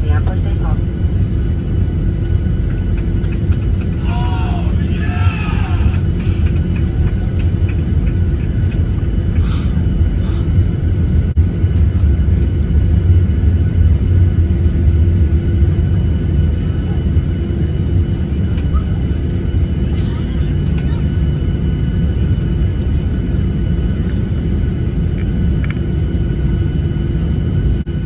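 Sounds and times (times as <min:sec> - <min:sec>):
airliner cabin rumble: 0:00.0 - 0:28.0.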